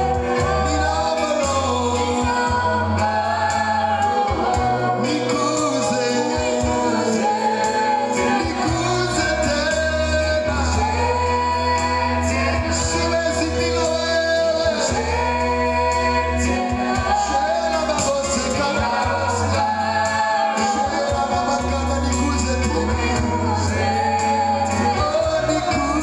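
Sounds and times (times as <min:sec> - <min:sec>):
worship music with singing: 0:00.0 - 0:26.0.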